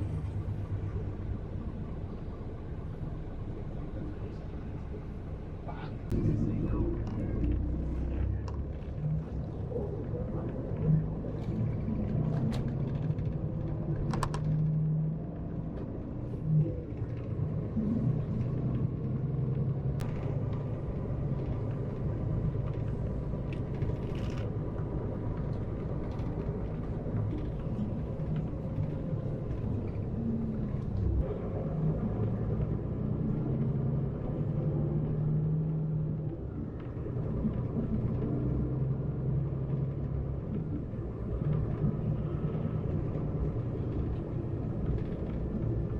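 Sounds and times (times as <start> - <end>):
bus engine rumble: 0.0 - 45.9
road noise: 0.0 - 45.9.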